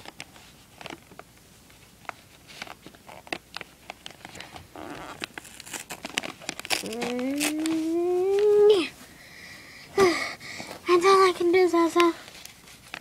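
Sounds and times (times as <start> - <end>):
hands rustling wrapping paper: 0.0 - 8.9, 10.9 - 13.0.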